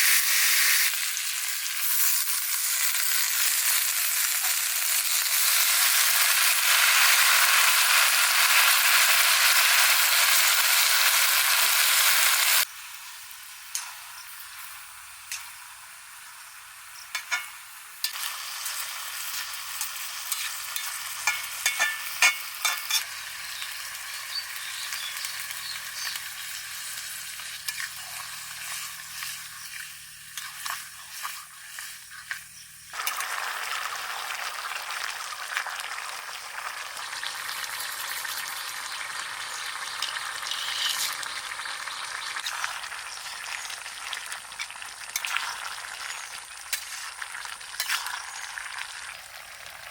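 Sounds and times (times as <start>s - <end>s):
curry sizzling in a pan: 0.0s - 49.9s.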